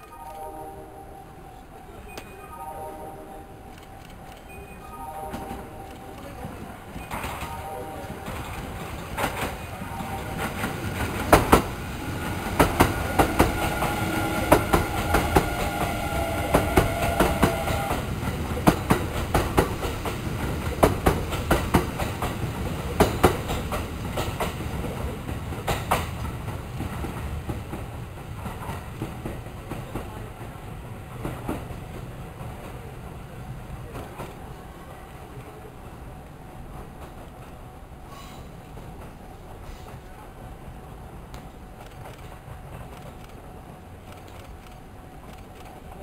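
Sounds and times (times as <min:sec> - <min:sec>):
train rumble: 0:05.3 - 0:46.0.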